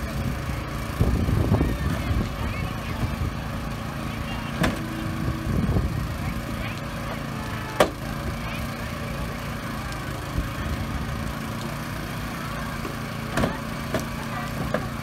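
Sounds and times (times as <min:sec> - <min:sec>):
hydraulic power unit running: 0:00.0 - 0:15.0.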